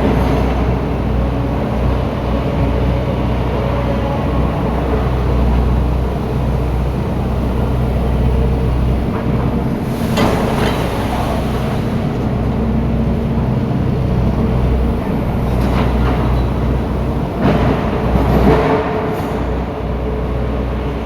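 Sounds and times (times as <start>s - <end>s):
diesel machinery running: 0.0s - 21.0s.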